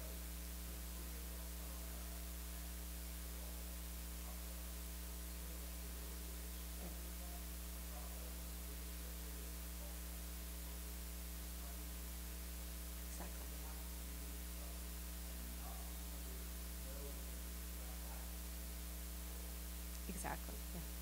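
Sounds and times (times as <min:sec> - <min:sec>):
faint indistinct voice: 0:00.0 - 0:12.2, 0:13.0 - 0:21.0
electrical mains hum: 0:00.0 - 0:21.0.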